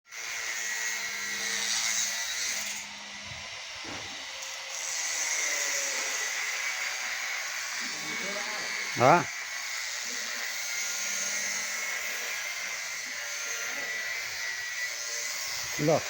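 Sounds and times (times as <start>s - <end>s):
power tool whirring on steel pipe: 0.1s - 16.0s.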